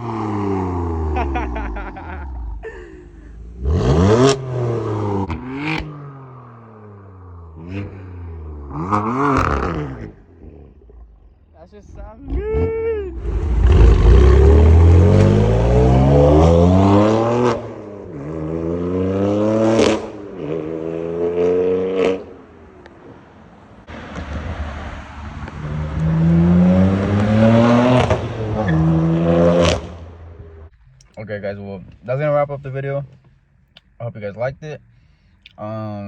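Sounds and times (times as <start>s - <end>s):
car engine revving: 0.0s - 23.0s, 23.8s - 34.0s.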